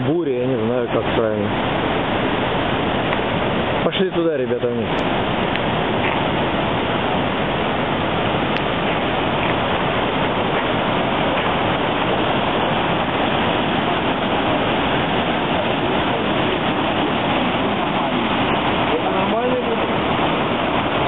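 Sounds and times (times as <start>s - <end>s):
river whitewater rushing: 0.0s - 21.0s.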